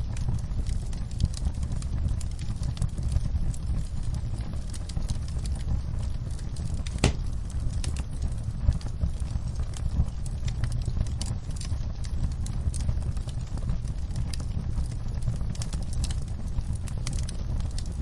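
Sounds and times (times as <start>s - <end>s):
fire popping loudly: 0.0s - 18.0s
wood fire crackling: 0.0s - 18.0s.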